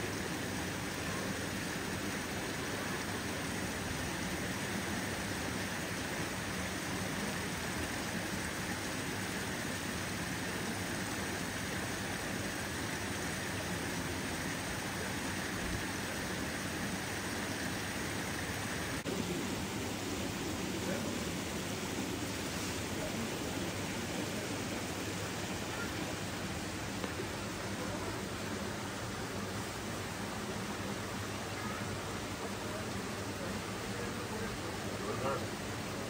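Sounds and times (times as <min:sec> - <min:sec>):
water rushing through channels: 0:00.0 - 0:36.0.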